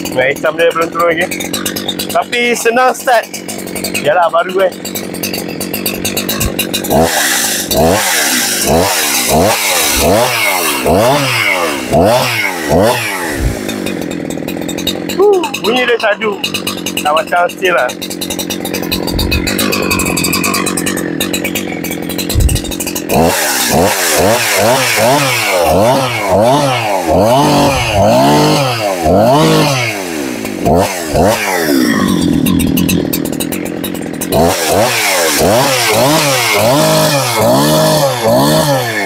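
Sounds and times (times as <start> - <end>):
chainsaw idling and revving: 0.0 - 39.0.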